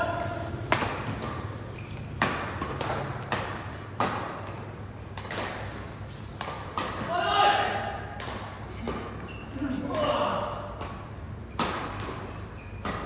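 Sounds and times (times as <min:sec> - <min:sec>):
rackets striking shuttlecock: 0:00.0 - 0:07.1, 0:08.0 - 0:13.0.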